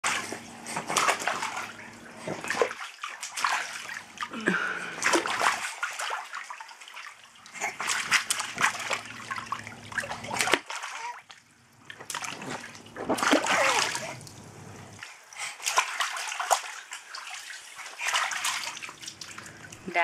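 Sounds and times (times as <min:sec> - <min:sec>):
baby splashing pool water: 0:00.0 - 0:20.0.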